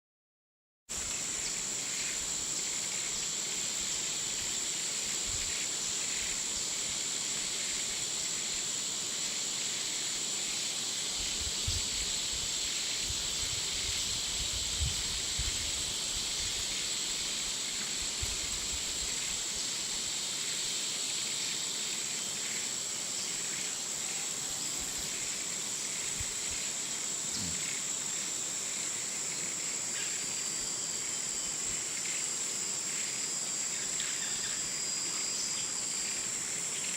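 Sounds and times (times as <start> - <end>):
insect hiss and chirring: 0.9 - 36.9
high-pitched insect drone: 1.0 - 36.9.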